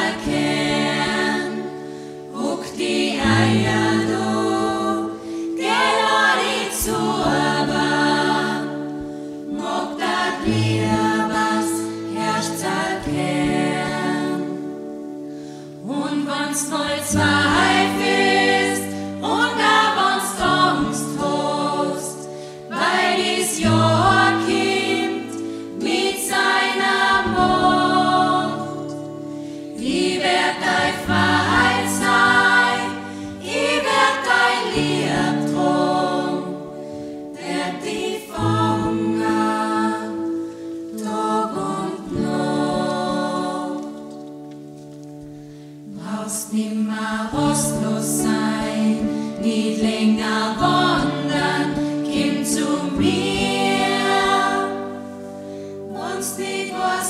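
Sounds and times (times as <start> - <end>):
choir singing in parts: 0.0 - 44.7, 45.8 - 57.0.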